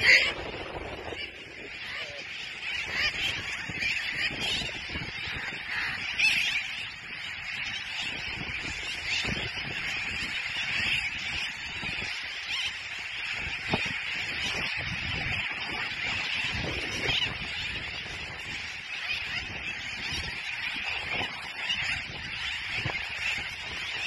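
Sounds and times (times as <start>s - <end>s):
flock of terns calling: 0.0s - 24.0s.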